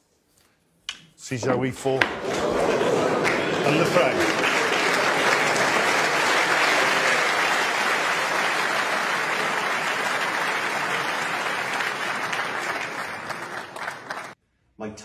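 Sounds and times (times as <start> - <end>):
audience applauding: 1.5 - 14.4.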